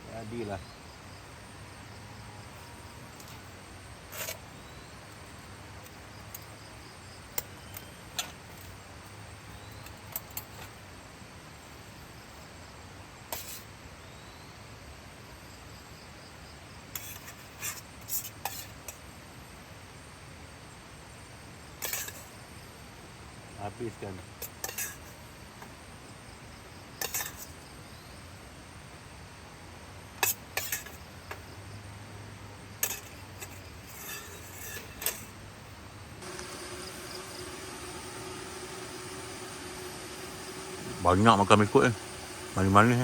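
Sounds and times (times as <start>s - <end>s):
insects chirping: 0.0s - 43.0s.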